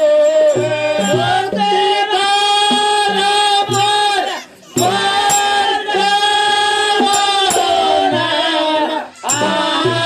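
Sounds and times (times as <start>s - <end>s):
man singing into microphone: 0.0s - 10.0s.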